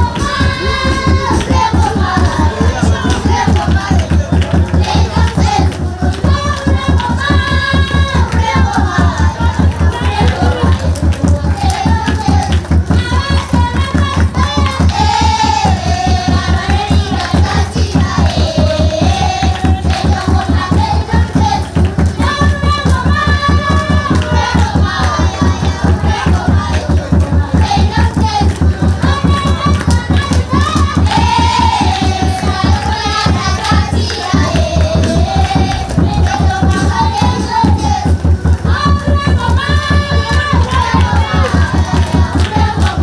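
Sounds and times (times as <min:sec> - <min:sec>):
children singing: 0:00.0 - 0:43.0
fast steady beat: 0:00.0 - 0:43.0
fast steady drumbeat: 0:00.0 - 0:43.0
hand clapping: 0:00.0 - 0:43.0
voice singing through microphone: 0:00.0 - 0:43.0.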